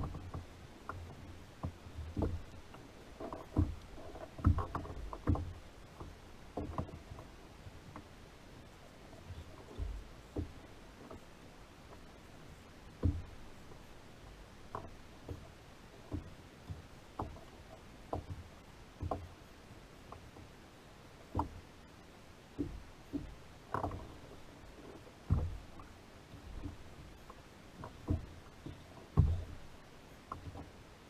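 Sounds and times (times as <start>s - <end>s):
soft knocks on a kayak: 0.0s - 8.1s, 9.2s - 11.3s, 12.9s - 19.4s, 21.2s - 21.6s, 22.5s - 30.8s.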